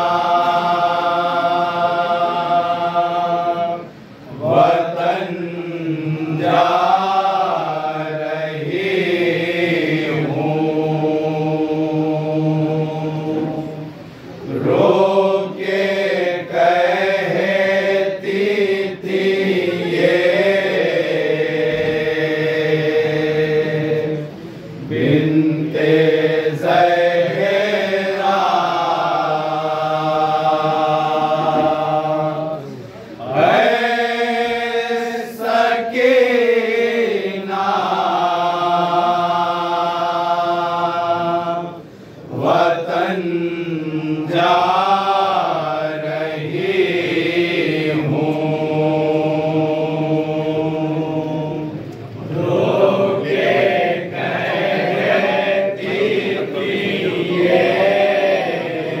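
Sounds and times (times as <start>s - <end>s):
men chanting a lament: 0.0s - 13.9s, 14.5s - 59.0s.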